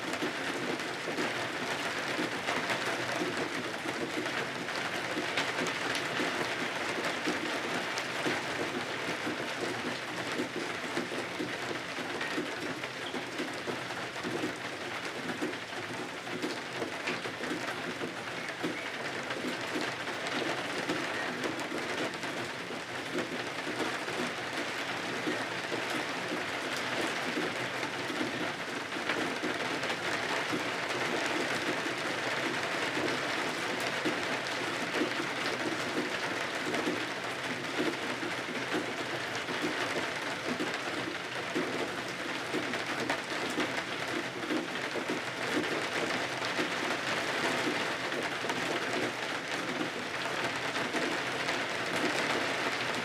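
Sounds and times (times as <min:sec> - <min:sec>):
steady rain hiss and patter: 0:00.0 - 0:53.0.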